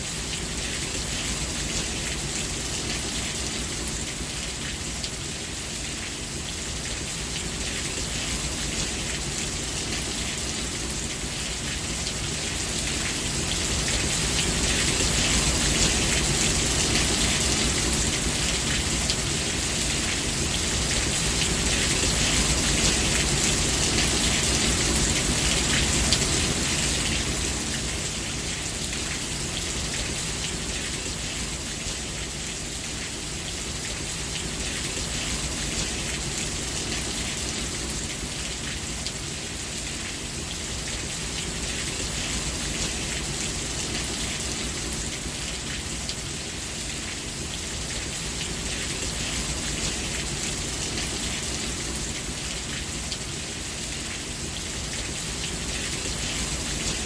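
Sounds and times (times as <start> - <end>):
rain pattering on surface: 0.0 - 57.0.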